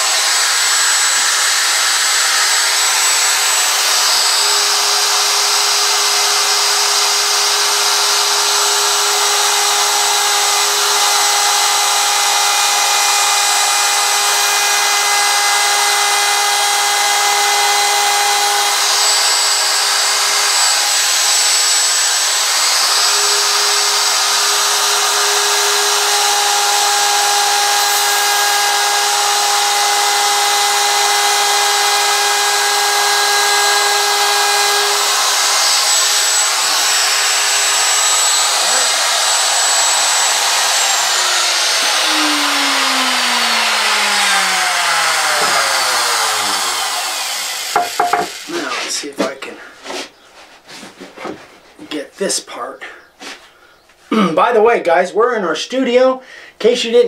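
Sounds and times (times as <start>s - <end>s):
rasp of wood cutting: 0.0s - 52.0s
router whining: 0.0s - 52.0s.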